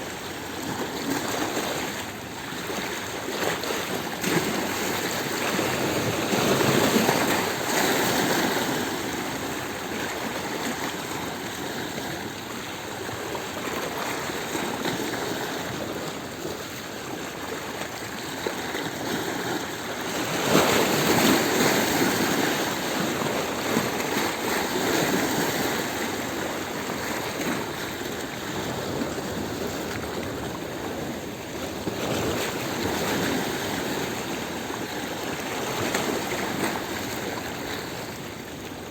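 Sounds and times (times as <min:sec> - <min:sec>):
waves washing over stones: 0:00.0 - 0:38.9.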